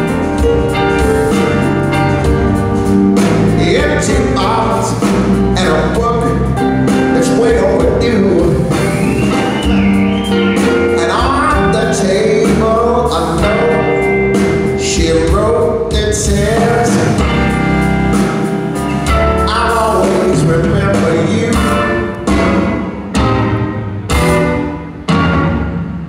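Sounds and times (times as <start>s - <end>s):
drums: 0.0s - 26.0s
electric bass: 0.0s - 26.0s
electric guitar lead with bending notes: 0.0s - 26.0s
keyboards: 0.0s - 26.0s.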